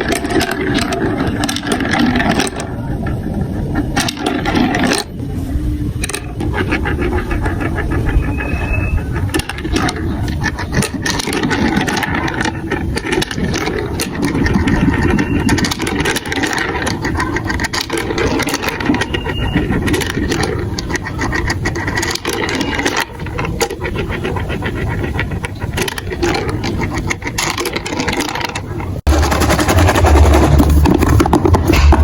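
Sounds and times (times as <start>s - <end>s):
marbles rolling on plastic run: 0.0s - 32.0s.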